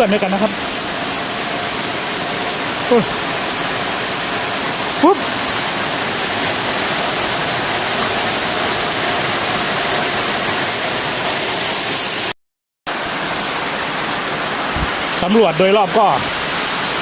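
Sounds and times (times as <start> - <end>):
heavy rain: 0.0 - 12.3, 12.9 - 17.0.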